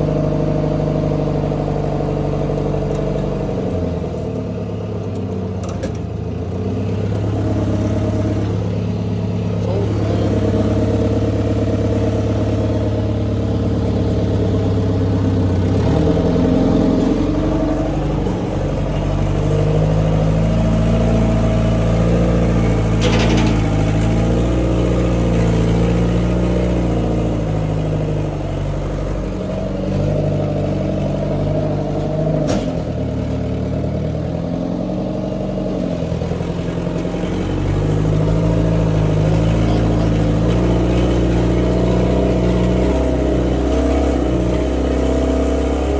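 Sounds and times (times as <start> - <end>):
engine running under load: 0.0 - 45.9.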